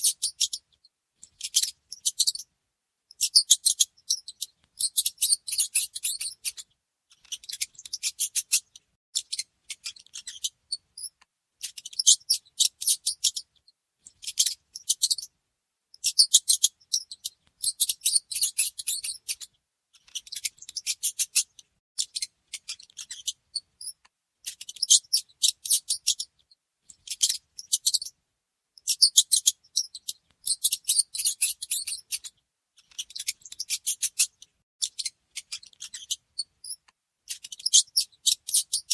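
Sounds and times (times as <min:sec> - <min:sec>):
mice squeaking: 0:00.0 - 0:02.5, 0:03.1 - 0:15.3, 0:16.0 - 0:26.3, 0:26.9 - 0:28.2, 0:28.8 - 0:38.9.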